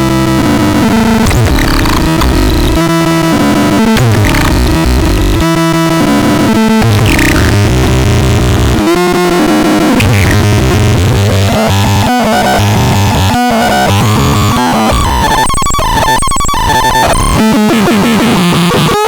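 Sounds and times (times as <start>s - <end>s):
harsh distorted synthesizer music: 0.0s - 19.0s.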